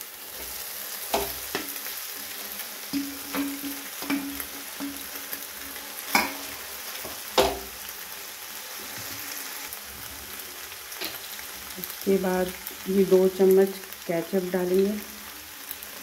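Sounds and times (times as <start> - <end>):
vegetables sizzling: 0.0 - 16.0.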